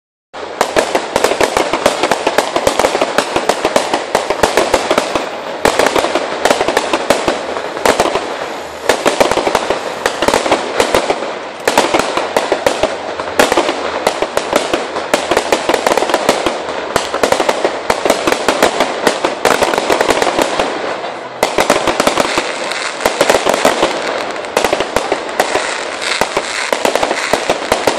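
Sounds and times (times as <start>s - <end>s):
fireworks bursting and crackling: 0.4s - 27.9s.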